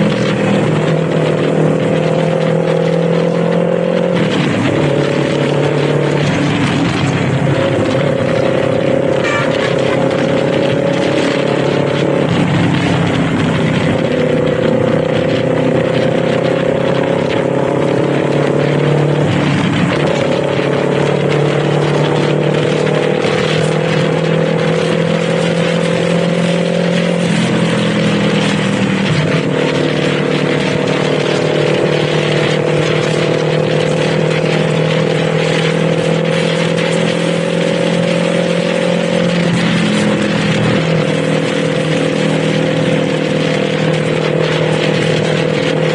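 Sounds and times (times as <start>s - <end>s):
motorcycle engine pulling: 0.0s - 45.9s
wind and road noise: 0.0s - 45.9s.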